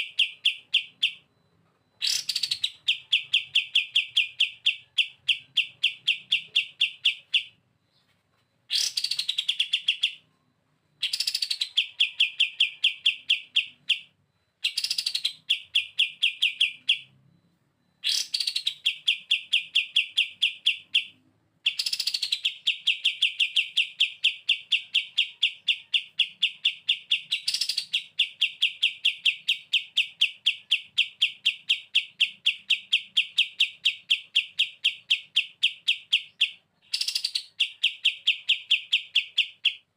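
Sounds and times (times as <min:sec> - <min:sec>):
songbird rattling song: 0:00.0 - 0:01.3, 0:01.9 - 0:10.3, 0:11.0 - 0:17.1, 0:18.0 - 0:39.9.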